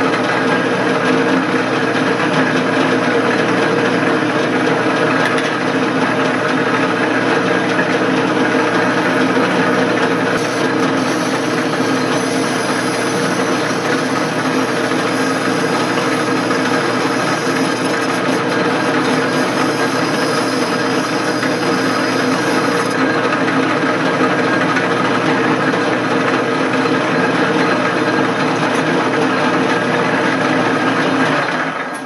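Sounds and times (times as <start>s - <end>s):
metal lathe running: 0.0s - 32.0s.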